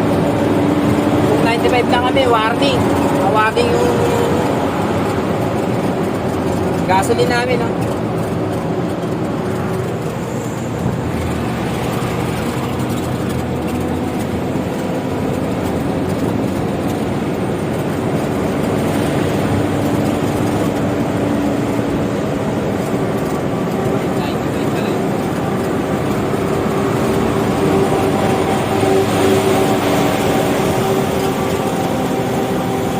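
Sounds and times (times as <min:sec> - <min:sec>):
diesel truck engine running: 0:00.0 - 0:32.9
road noise: 0:00.0 - 0:32.9.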